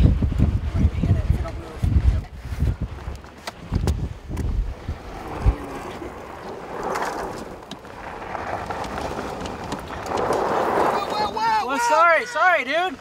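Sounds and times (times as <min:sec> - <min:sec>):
wind on microphone: 0:00.0 - 0:11.6.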